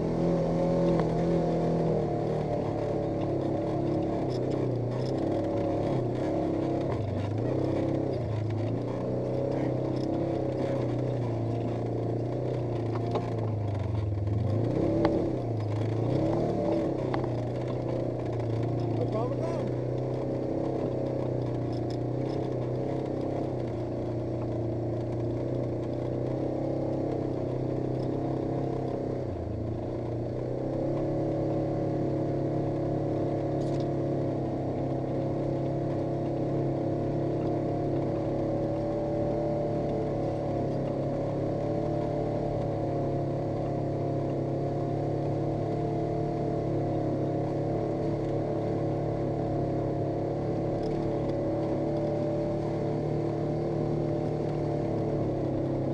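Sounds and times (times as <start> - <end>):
twin-cylinder engine running: 0.0 - 55.9.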